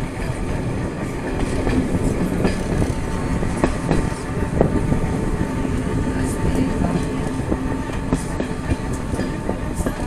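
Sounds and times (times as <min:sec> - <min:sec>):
train rumbling: 0:00.0 - 0:10.0
wheels clicking on track: 0:00.0 - 0:10.0.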